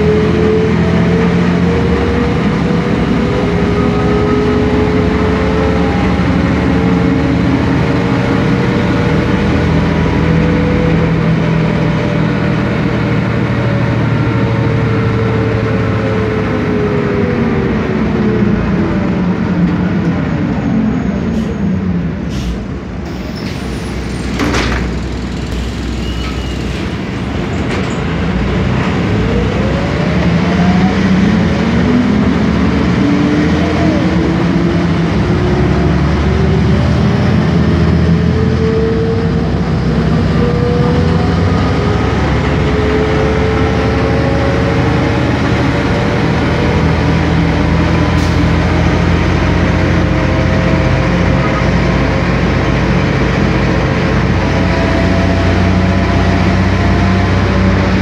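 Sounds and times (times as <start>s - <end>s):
bus engine: 0.0s - 58.0s.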